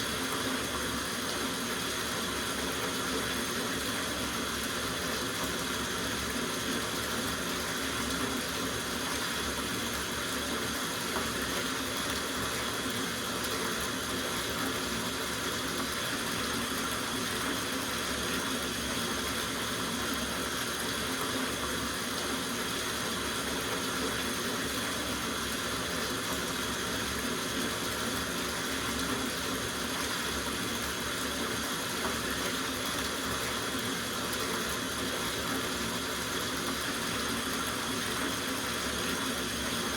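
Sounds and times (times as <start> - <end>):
tap water running into bathtub: 0.0 - 39.9.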